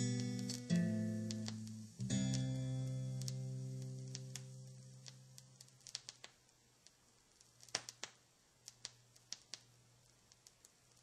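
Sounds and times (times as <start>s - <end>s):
vinyl clicks and pops: 0.0s - 9.7s.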